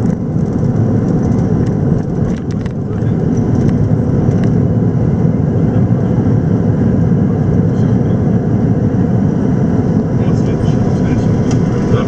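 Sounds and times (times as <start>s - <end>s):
jet engines rumbling in cockpit: 0.0s - 12.0s.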